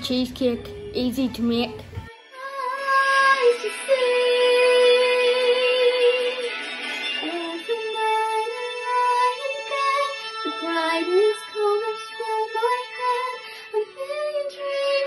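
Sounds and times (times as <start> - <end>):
girl singing: 0.0 - 6.6, 7.2 - 15.0.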